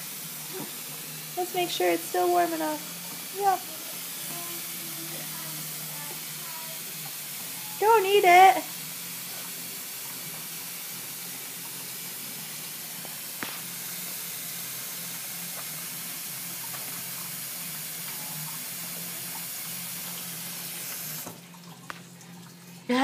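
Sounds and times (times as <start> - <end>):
faucet running into tub: 0.0 - 23.0.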